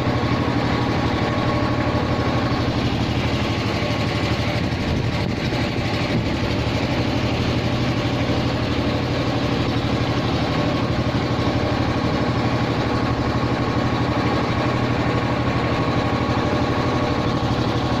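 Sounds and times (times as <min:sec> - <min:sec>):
vehicle engine running steadily: 0:00.0 - 0:18.0.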